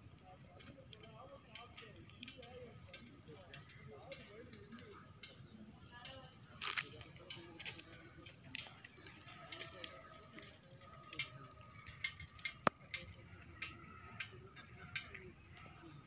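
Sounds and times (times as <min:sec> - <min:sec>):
crickets trilling: 0:00.0 - 0:16.0
light ticks and clicks: 0:00.6 - 0:15.4.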